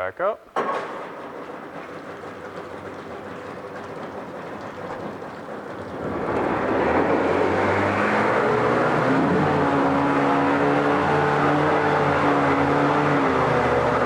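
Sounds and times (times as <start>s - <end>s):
outboard motor running: 0.6s - 14.0s.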